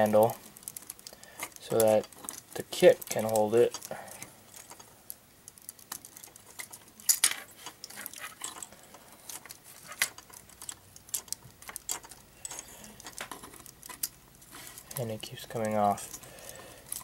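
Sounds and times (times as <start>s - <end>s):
plastic parts clicking and scraping: 0.0s - 17.0s.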